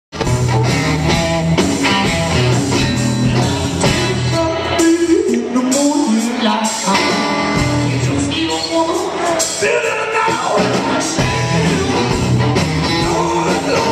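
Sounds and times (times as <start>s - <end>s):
live band playing: 0.1s - 13.9s
person singing: 2.7s - 13.9s.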